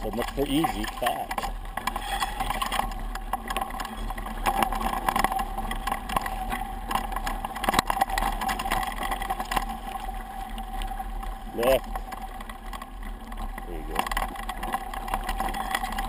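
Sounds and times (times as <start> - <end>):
bike rattling: 0.0 - 16.0
bike tyres crunching on dirt: 0.0 - 16.0.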